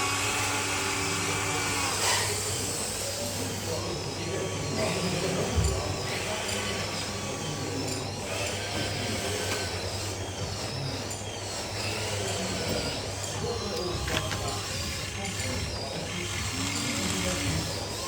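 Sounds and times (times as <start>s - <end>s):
small electric motors whining: 0.0s - 18.0s.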